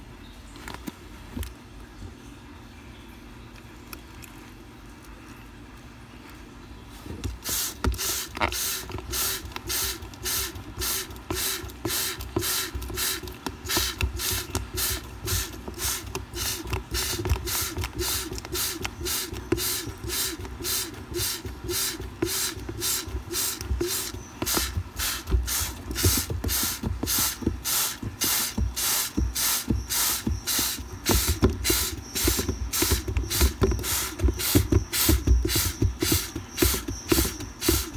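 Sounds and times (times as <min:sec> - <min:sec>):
spray bottle squirting: 0:07.2 - 0:37.9.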